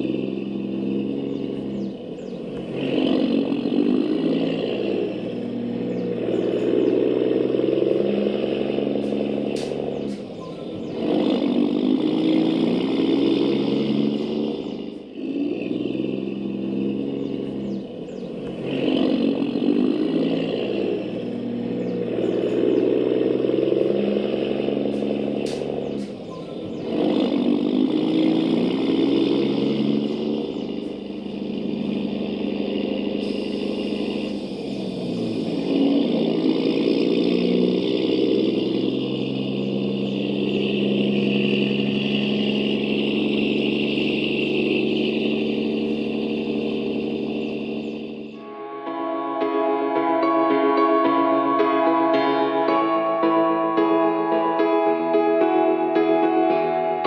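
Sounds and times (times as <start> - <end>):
rc truck engine revving: 0.0 - 48.8.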